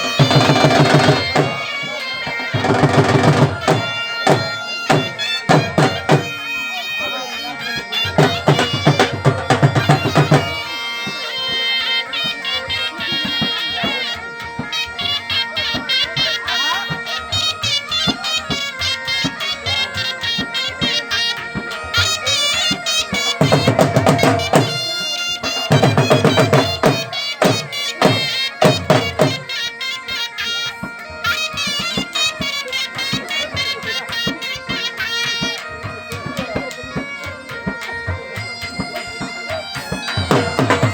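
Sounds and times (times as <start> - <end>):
bagpipes playing over drones: 0.0 - 40.9
drum beats: 0.0 - 40.9.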